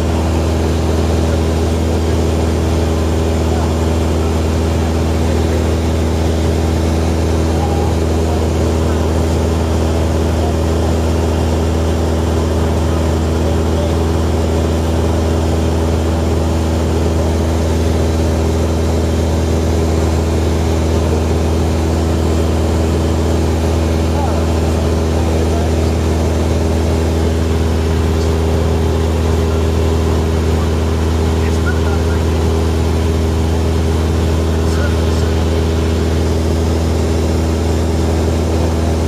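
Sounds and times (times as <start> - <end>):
small plane engine drone in cabin: 0.0 - 39.0.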